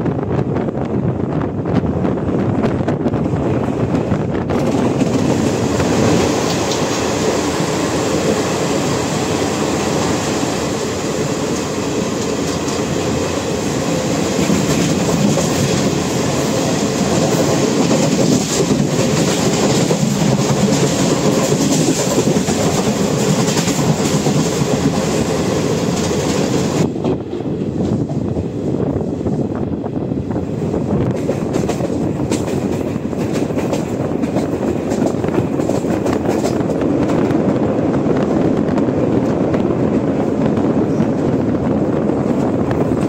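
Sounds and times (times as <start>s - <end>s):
track clacks: 0.0s - 43.0s
train wheels rumbling on rails: 0.0s - 43.0s.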